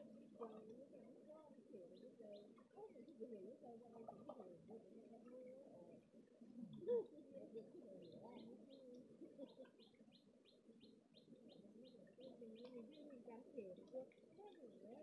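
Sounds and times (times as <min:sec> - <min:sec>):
wavering low distant voices: 0:00.0 - 0:15.0.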